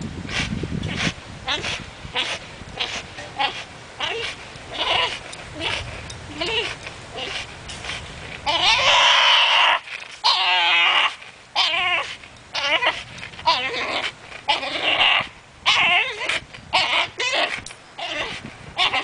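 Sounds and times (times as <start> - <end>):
dog whining and squealing: 0.8 - 19.0.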